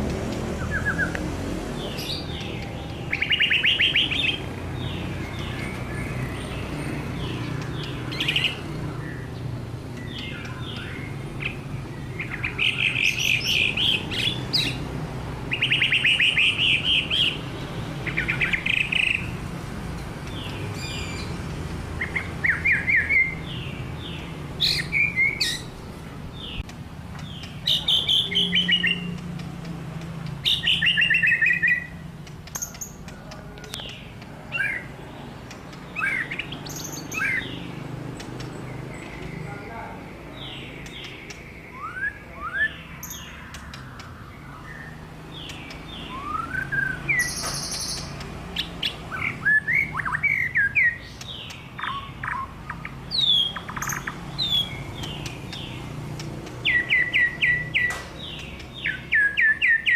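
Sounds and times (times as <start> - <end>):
songbird singing trilled phrases: 0.3 - 1.2, 1.8 - 19.5, 20.2 - 59.9.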